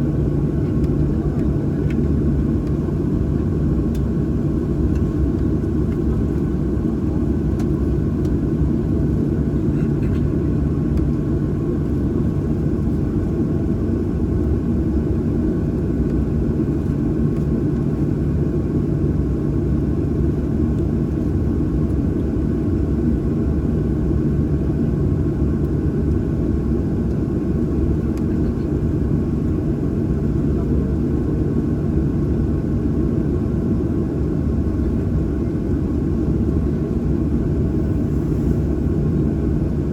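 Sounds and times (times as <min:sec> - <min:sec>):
aircraft engines rumbling: 0:00.0 - 0:39.9.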